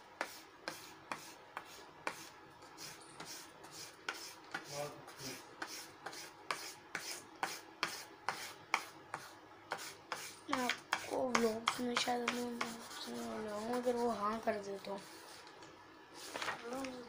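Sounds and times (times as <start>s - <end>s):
crayon scratching on paper: 0.2s - 15.5s.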